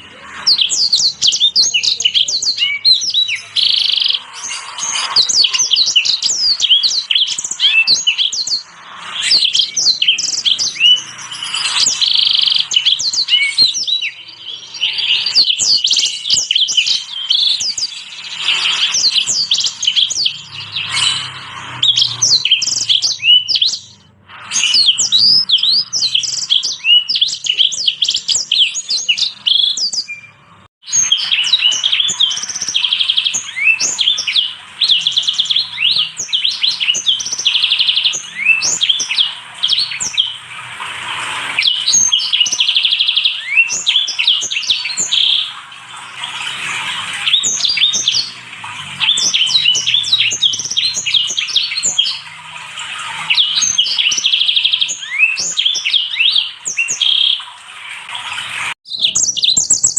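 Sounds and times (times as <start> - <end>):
finches twittering song: 0.0 - 57.5, 58.9 - 59.9.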